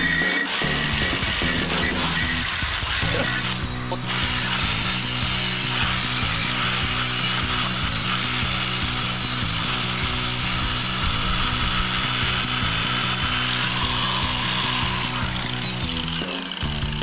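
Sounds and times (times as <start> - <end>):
background music: 0.0 - 17.0
power tool grinding metal: 0.0 - 17.0.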